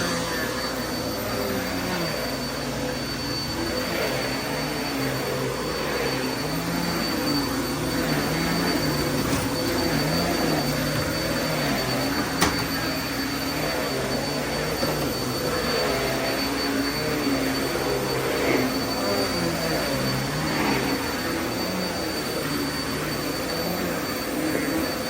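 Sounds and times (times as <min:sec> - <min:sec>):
vacuum cleaner whining: 0:00.0 - 0:25.0.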